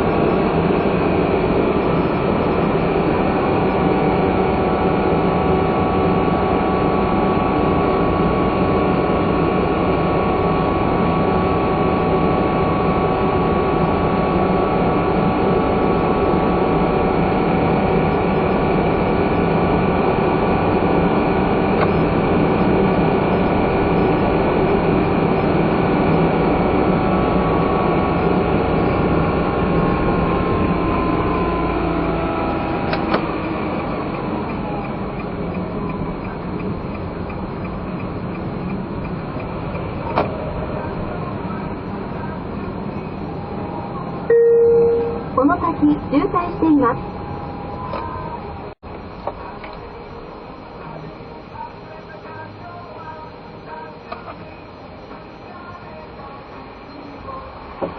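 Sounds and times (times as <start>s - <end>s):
car engine running: 0.0s - 57.9s
road and tyre noise: 0.0s - 57.9s.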